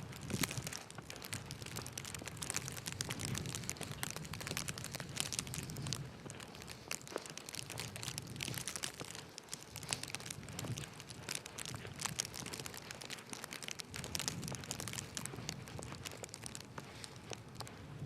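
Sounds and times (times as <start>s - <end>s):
footsteps crunching in snow: 0.0s - 18.0s.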